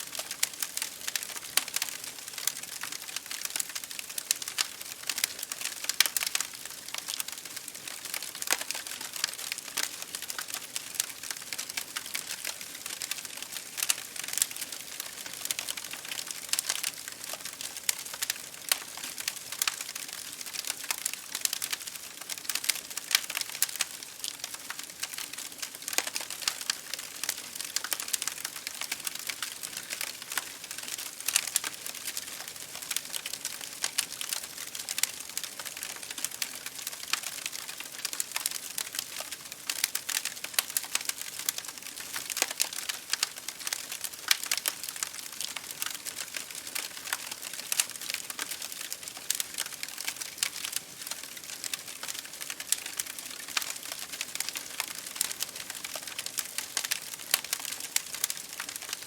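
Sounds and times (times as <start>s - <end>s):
wood fire crackling: 0.0s - 59.0s
rain on window glass: 0.1s - 59.0s.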